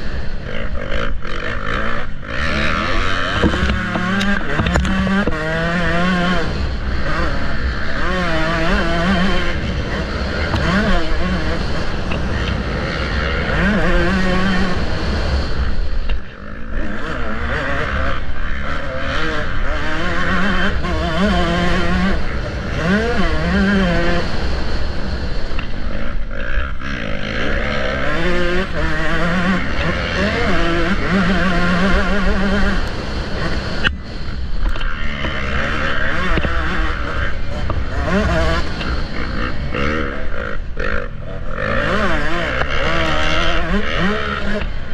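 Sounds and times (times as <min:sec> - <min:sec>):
motocross bike engine revving: 0:00.0 - 0:44.9
wind rumble on microphone: 0:00.0 - 0:44.9.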